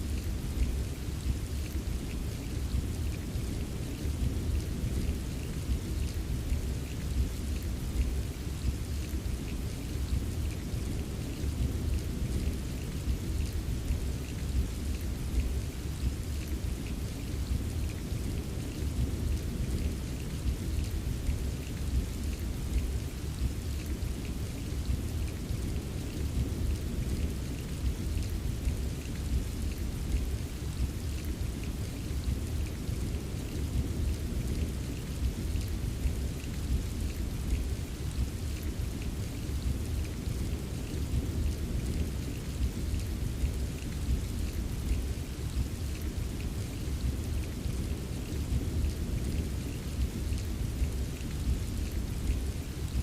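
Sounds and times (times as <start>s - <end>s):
patter of rain drops: 0.0s - 53.0s.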